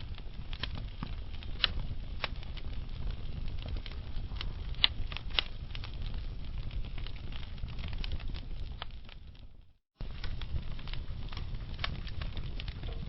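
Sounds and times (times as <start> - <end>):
fire low rumble: 0.0 - 13.0
wood fire crackling and popping: 0.0 - 13.0.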